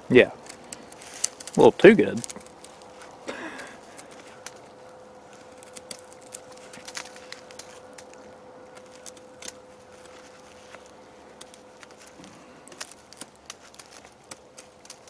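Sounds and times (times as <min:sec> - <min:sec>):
knife carving wood: 0:00.3 - 0:03.2, 0:03.8 - 0:15.0.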